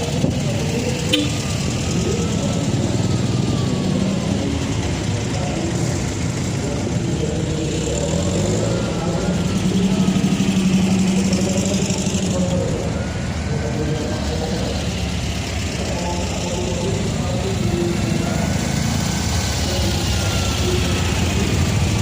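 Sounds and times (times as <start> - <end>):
car engine idling: 0.0 - 22.0
voices in background: 0.0 - 22.0.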